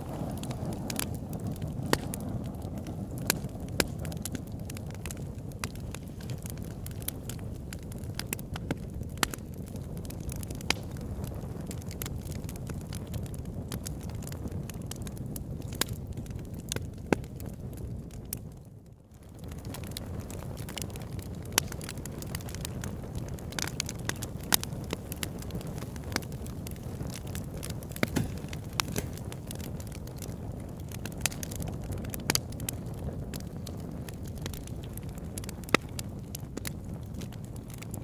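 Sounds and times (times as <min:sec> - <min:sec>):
low rush of flame: 0:00.0 - 0:38.0
wood fire crackling and popping: 0:00.0 - 0:38.0.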